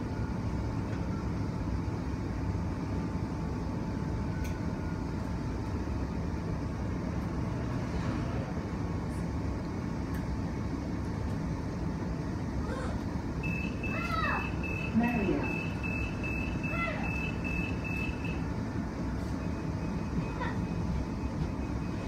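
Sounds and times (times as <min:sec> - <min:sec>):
faint motor whine: 0:00.0 - 0:22.0.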